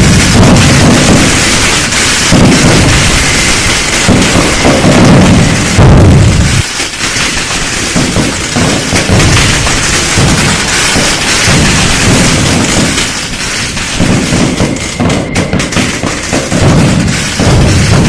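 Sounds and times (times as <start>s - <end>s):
firecrackers cracking: 0.0s - 18.0s
fireworks low booms: 0.0s - 18.0s.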